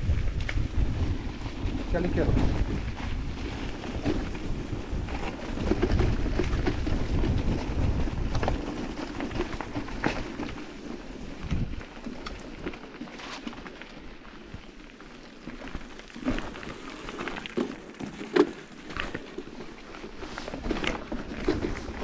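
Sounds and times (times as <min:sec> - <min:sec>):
wind rumble on microphone: 0:00.0 - 0:14.8, 0:18.8 - 0:22.0
bike tyre noise: 0:00.0 - 0:22.0
clicks and rattles of stones: 0:00.0 - 0:22.0.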